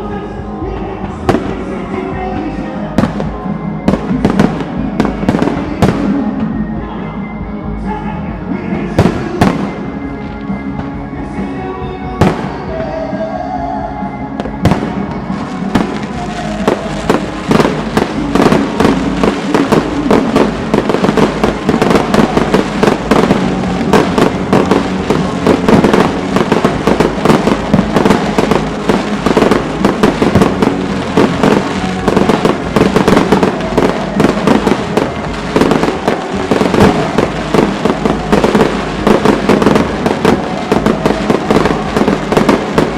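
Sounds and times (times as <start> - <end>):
fireworks bangs and crackles: 0.0 - 6.6, 8.6 - 11.5, 12.1 - 13.1, 14.4 - 42.9
music: 0.0 - 42.9.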